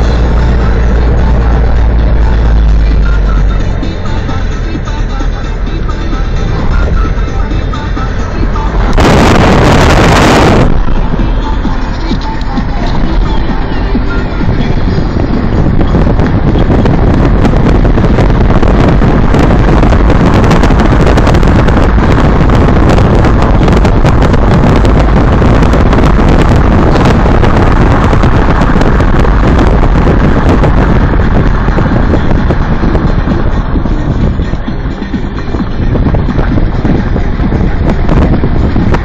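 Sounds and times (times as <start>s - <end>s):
vehicle rumbling on dirt road: 0.0s - 39.0s
wind buffeting microphone: 0.0s - 39.0s.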